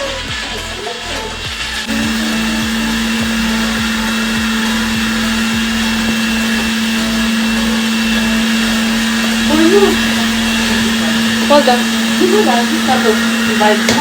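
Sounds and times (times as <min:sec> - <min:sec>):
electric blender running: 0:00.0 - 0:14.0.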